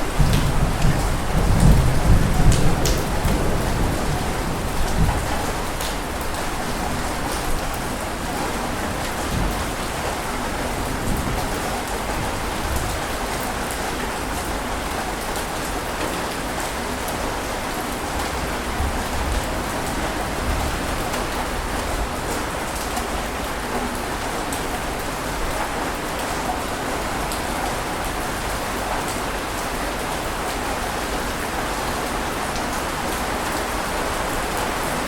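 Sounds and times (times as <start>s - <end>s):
dense rush of water: 0.0s - 35.0s.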